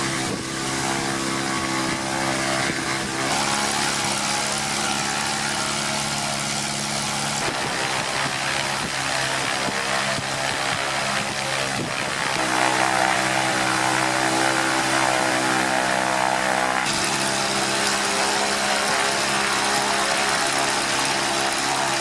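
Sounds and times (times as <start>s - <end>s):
light aircraft piston engine running: 0.0s - 22.0s.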